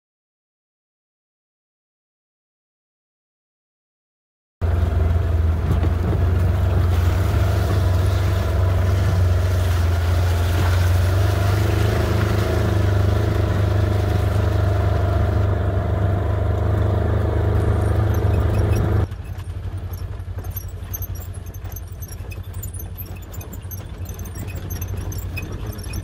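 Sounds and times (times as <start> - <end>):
vehicle engine rumbling: 4.6 - 26.0.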